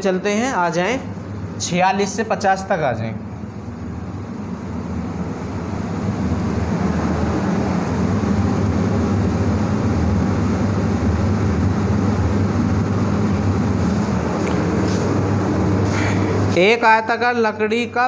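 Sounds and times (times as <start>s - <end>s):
low mechanical rumble: 0.0s - 18.0s.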